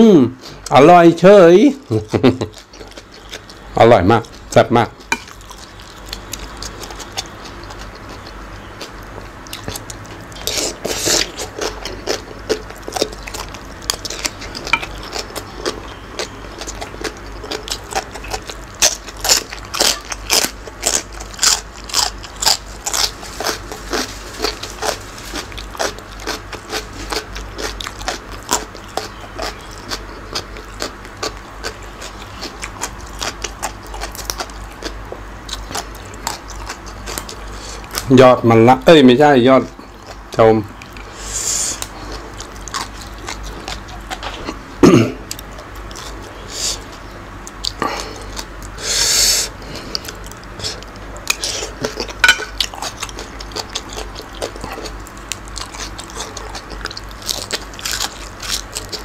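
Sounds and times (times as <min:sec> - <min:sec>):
man chewing and lip-smacking: 0:01.8 - 0:38.1, 0:39.7 - 0:59.0.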